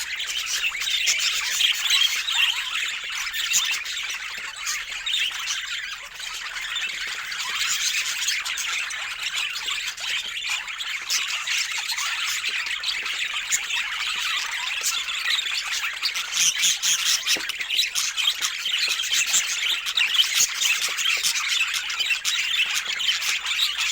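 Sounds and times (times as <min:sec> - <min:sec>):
budgerigars chattering and squawking: 0:00.0 - 0:23.9.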